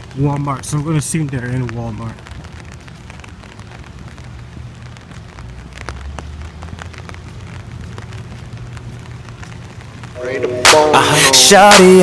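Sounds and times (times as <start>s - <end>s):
rain drops ticking: 0.0s - 12.0s
rain hiss: 0.0s - 12.0s.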